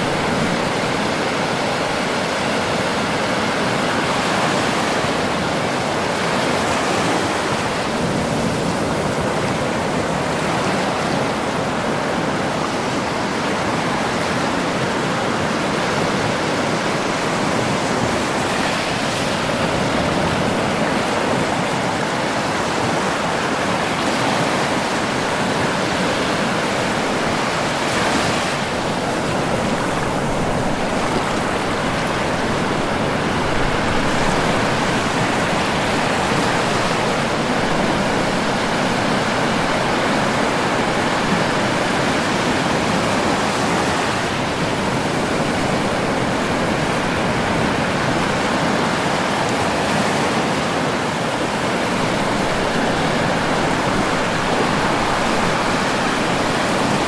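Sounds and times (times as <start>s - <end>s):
ocean surf breaking on beach: 0.0s - 57.0s.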